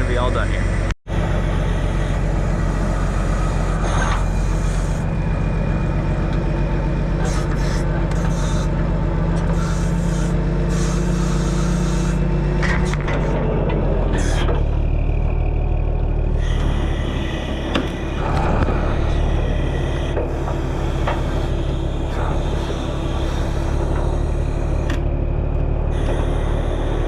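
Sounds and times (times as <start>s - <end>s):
diesel engine running: 0.0s - 27.0s
logs scraping: 1.9s - 15.5s, 16.2s - 25.1s.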